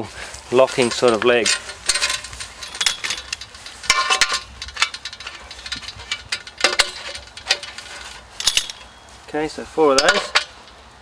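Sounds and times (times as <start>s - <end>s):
metal clinks and knocks: 0.6s - 9.1s, 9.9s - 10.8s.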